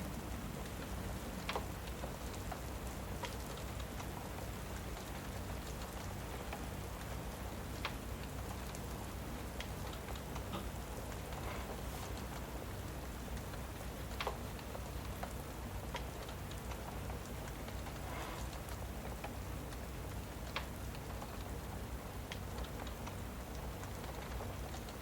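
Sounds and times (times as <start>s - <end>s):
steady rain: 0.0s - 25.0s
wood fire crackling and popping: 0.0s - 25.0s.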